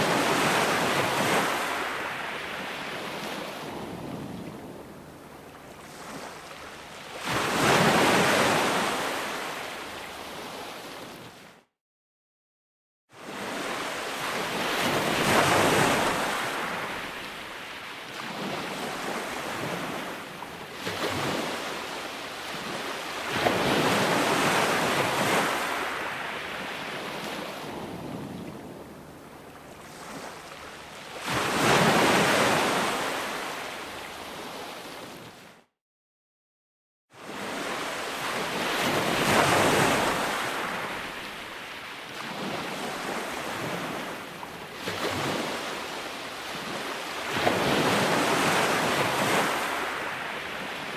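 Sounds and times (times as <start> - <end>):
ocean waves on shore: 0.0 - 11.7, 13.2 - 35.7, 37.2 - 50.9.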